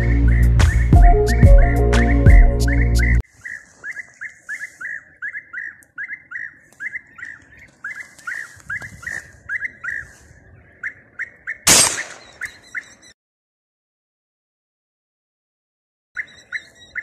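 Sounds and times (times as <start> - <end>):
birds calling: 0.0 - 13.2, 16.2 - 17.0.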